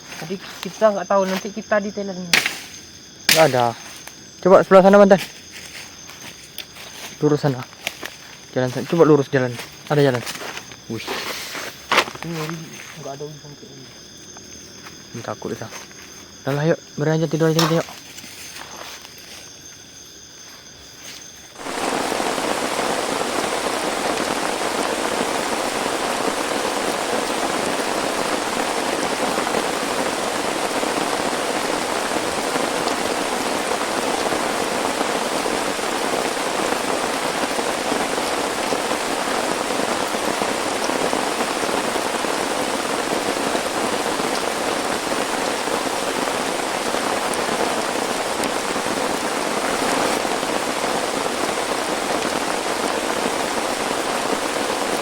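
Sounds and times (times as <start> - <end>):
heavy rain pouring: 0.0 - 14.0, 21.5 - 55.0.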